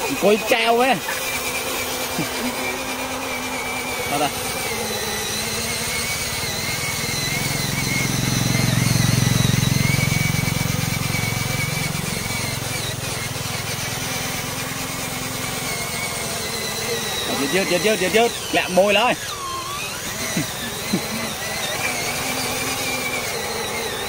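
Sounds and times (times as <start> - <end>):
electric toy motor whining: 0.0 - 24.0.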